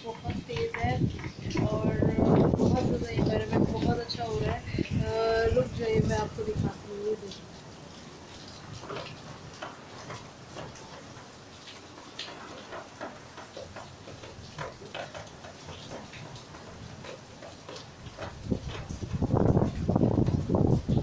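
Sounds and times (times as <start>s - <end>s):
rain falling: 0.0s - 21.0s
raindrops ticking and tapping: 0.0s - 21.0s.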